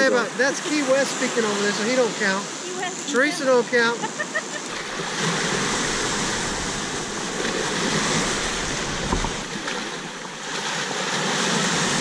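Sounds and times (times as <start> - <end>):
surf washing and splashing: 0.0 - 12.0.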